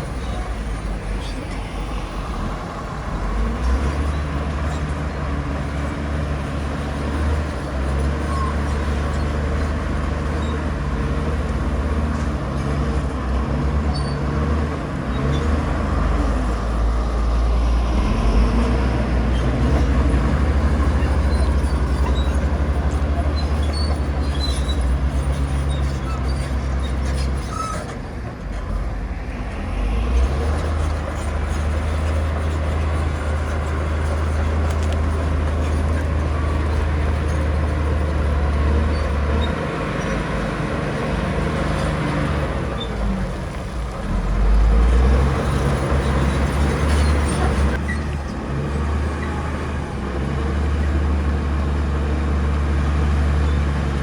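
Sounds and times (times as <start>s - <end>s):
diesel engine rumbling: 0.0s - 54.0s.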